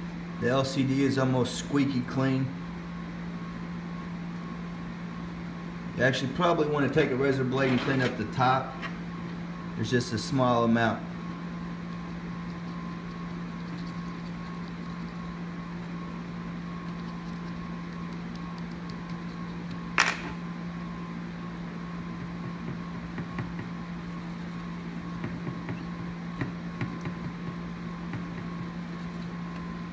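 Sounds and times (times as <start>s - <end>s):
low room hum: 0.0s - 29.9s.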